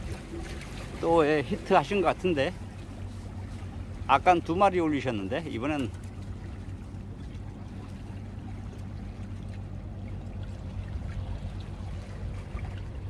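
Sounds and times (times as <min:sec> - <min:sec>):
small waves washing against rocks: 0:00.0 - 0:13.0.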